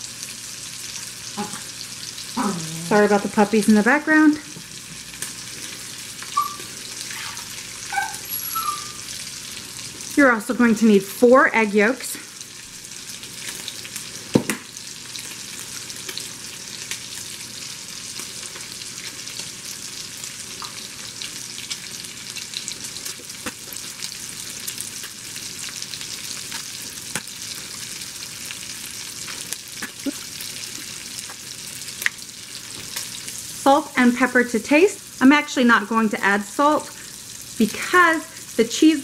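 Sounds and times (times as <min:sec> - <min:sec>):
bacon sizzling in a pan: 0:00.0 - 0:39.0.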